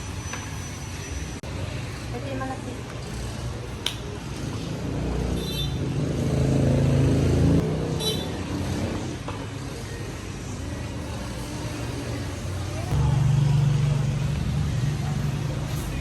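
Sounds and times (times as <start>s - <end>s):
motor vehicle engine drone: 1.1s - 16.0s.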